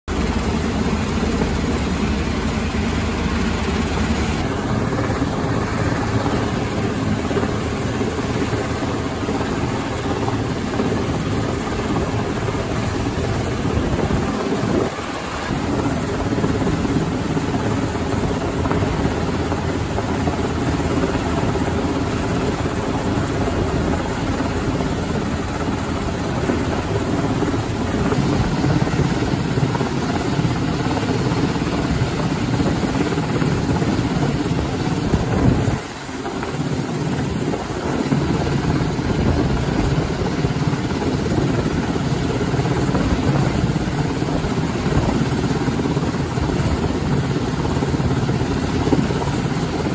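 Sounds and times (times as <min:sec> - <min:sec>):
helicopter rotor and turbine: 0:00.0 - 0:49.9.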